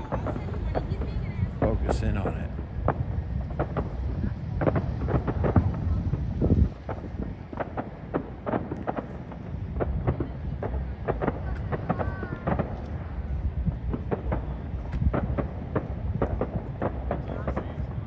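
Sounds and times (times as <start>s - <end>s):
distant fireworks popping and banging: 0.0s - 18.0s
wind rumbling on microphone: 0.0s - 18.0s.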